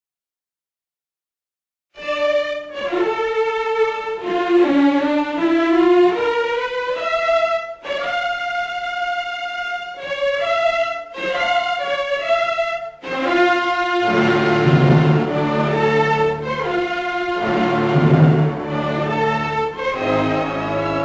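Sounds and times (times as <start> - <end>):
orchestral music with violins: 2.0 - 21.0.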